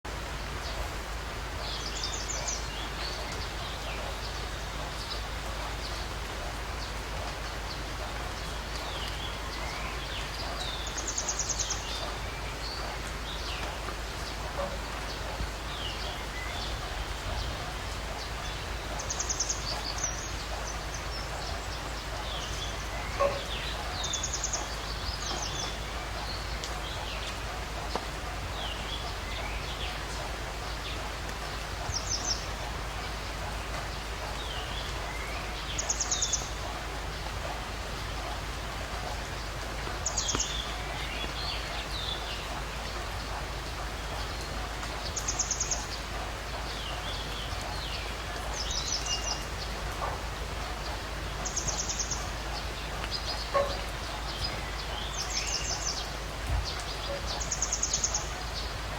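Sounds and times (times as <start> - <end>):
background hiss: 0.1 - 58.9.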